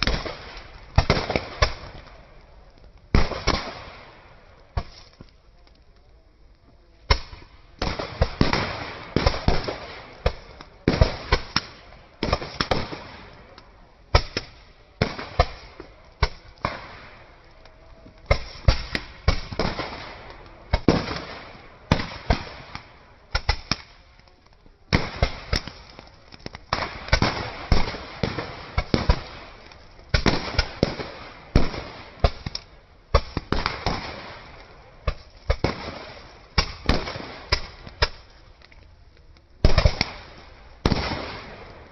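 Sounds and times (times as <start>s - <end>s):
firecrackers banging: 0.0s - 5.5s, 7.0s - 38.8s, 39.6s - 41.9s.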